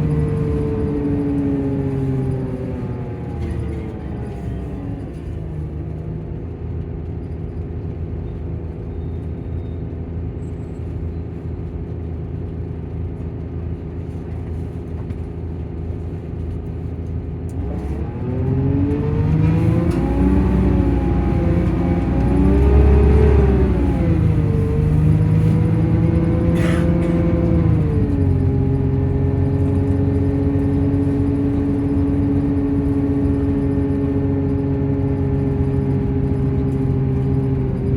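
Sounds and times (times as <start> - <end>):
coach engine running: 0.0 - 37.9.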